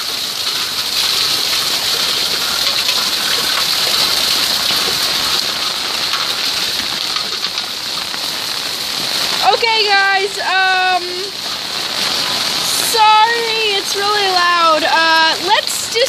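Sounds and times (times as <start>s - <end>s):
heavy rain on wet paving: 0.0s - 16.0s.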